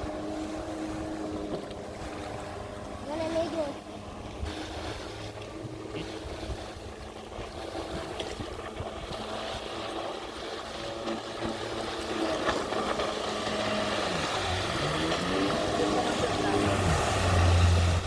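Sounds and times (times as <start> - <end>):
jet ski engine running: 0.0 - 18.0.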